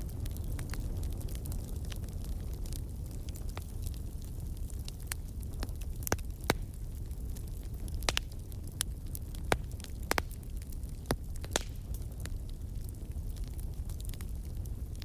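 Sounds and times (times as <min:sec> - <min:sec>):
pops and snaps of fire: 0:00.0 - 0:15.0
wood fire crackling: 0:00.0 - 0:15.0.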